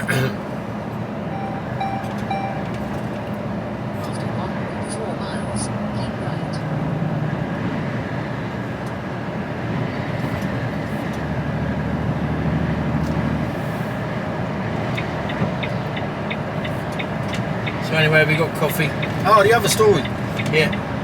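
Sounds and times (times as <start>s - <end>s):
road noise: 0.0s - 21.0s
truck engine drone: 0.0s - 21.0s.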